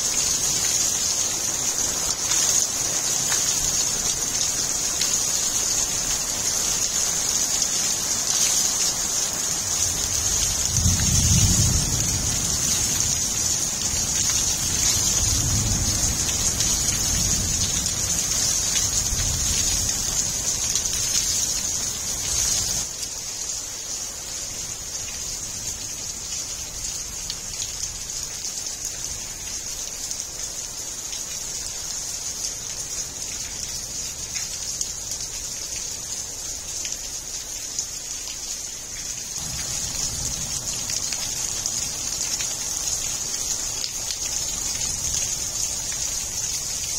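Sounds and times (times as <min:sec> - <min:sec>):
heavy rain hissing: 0:00.0 - 0:46.9.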